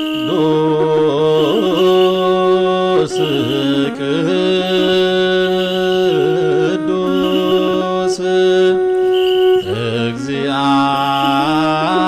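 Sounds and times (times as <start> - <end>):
held drone: 0.0 - 12.0
wavering ornamented melody: 0.0 - 12.0.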